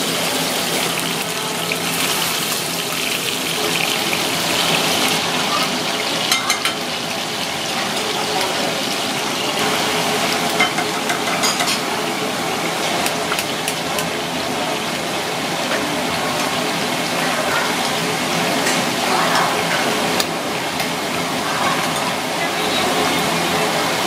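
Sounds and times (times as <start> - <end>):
oil sizzling in a frying pan: 0.0 - 24.0.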